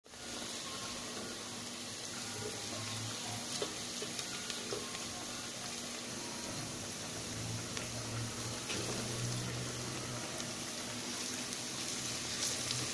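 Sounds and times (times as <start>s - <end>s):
onions sizzling in oil: 0.0s - 12.9s.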